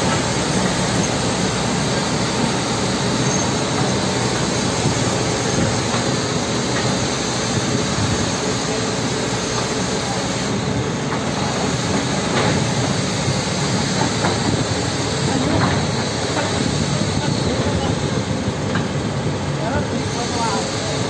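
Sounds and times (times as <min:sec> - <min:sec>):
excavator diesel engines under load: 0:00.0 - 0:21.0.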